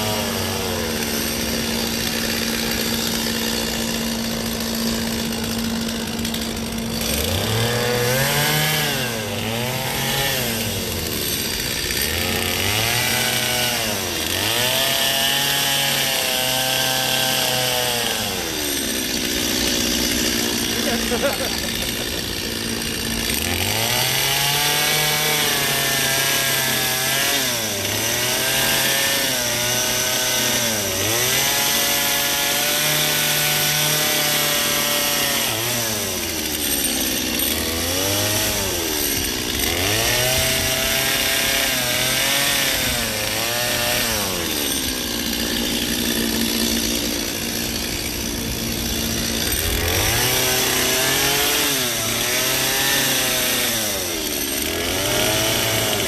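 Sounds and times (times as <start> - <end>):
chainsaw cutting ice: 0.0 - 56.0.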